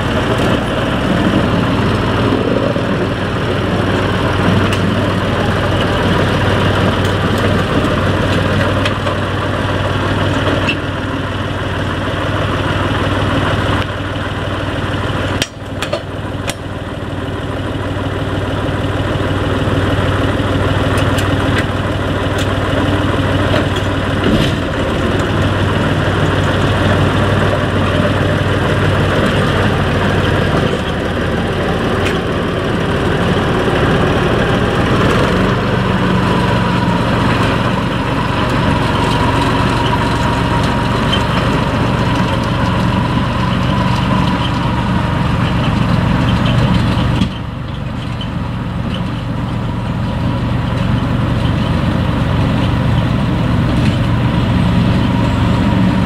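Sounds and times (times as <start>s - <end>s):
diesel locomotive running: 0.0s - 56.0s.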